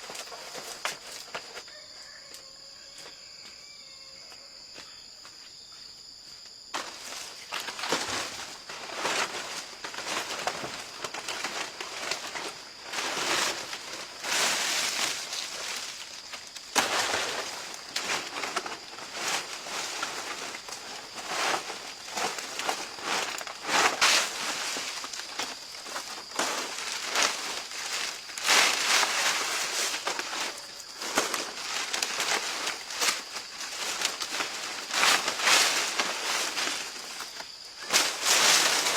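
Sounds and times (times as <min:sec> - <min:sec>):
high insect tone: 0:00.0 - 0:38.9
leaves rustling and crackling: 0:06.8 - 0:38.9.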